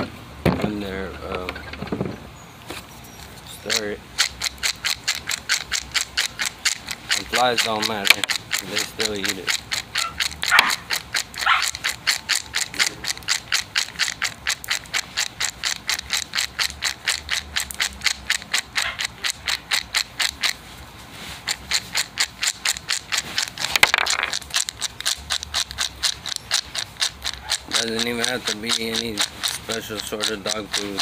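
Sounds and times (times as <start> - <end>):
dry kibble rattling in a bowl: 3.5 - 31.0.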